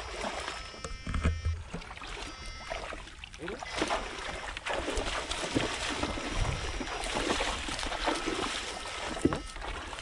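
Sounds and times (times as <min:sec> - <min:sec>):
person wading through water: 0:00.0 - 0:10.0
poles splashing water: 0:00.0 - 0:10.0.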